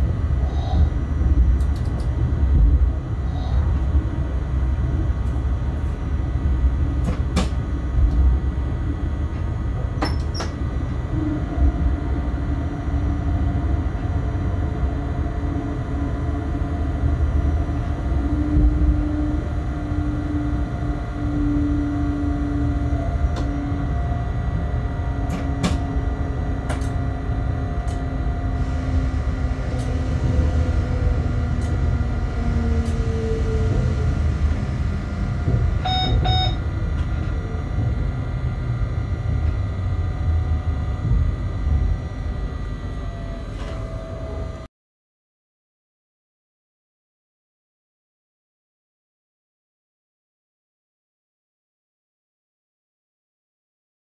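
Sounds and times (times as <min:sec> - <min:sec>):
locomotive running gear rumble: 0:00.0 - 0:44.7
traction drive whine: 0:00.0 - 0:44.7.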